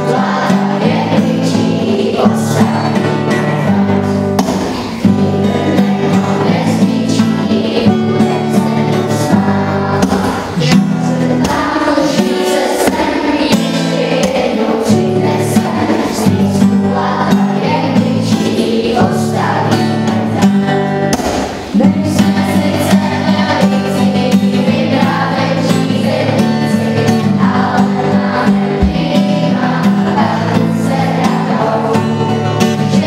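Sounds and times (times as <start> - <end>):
children's choir singing: 0.0 - 33.0.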